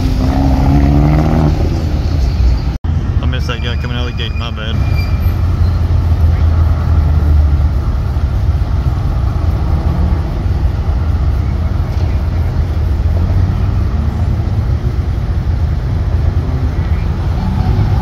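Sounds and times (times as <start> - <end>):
car engine idling: 1.5 - 18.0.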